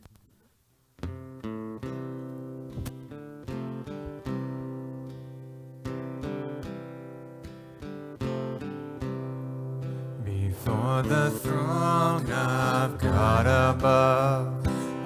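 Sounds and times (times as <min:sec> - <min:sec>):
acoustic guitar picked and strummed: 0:00.0 - 0:15.0.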